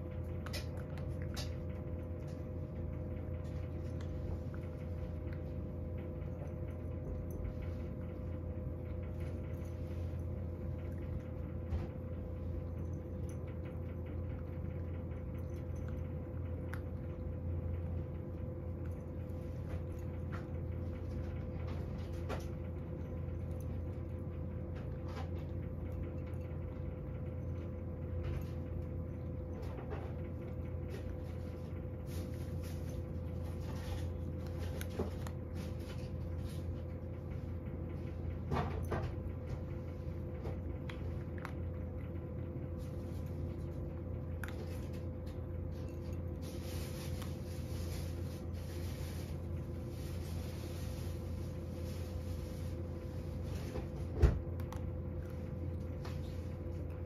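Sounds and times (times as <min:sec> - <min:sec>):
cat crunching dry kibble: 0:00.0 - 0:57.0
steady low hum: 0:00.0 - 0:57.0.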